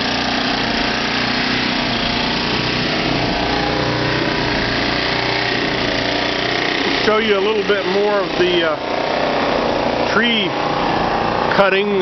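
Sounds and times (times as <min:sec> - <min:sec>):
portable generator engine running: 0:00.0 - 0:12.0.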